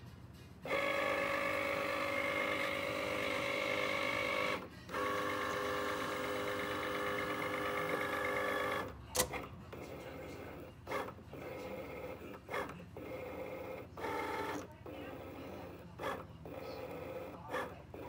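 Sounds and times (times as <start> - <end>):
cutting machine motors whining: 0.6 - 18.0.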